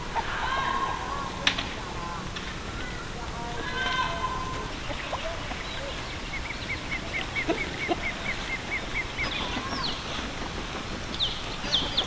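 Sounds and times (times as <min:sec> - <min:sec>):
background hiss: 0:00.0 - 0:12.0
farm fowl low calls: 0:00.0 - 0:12.0.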